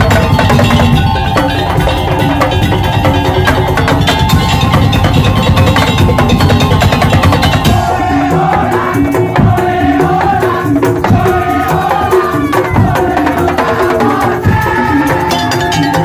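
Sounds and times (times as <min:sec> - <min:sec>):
dense driving drums: 0:00.0 - 0:16.0
percussion ensemble playing: 0:00.0 - 0:16.0.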